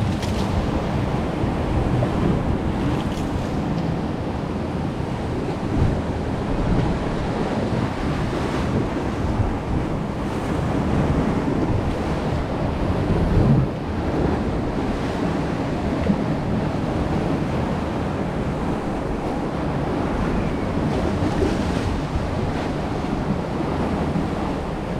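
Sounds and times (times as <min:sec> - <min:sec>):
water rushing and churning: 0:00.0 - 0:24.9
wind noise on microphone: 0:00.0 - 0:24.9.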